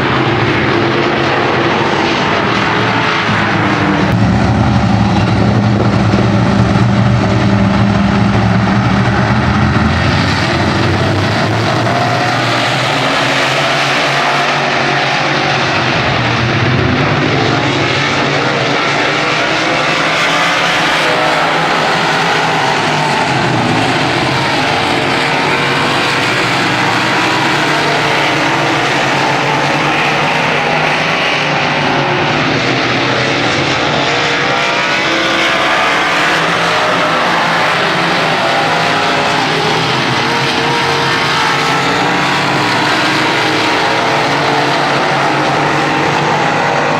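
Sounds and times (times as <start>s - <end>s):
racing engines droning: 0.0s - 46.9s.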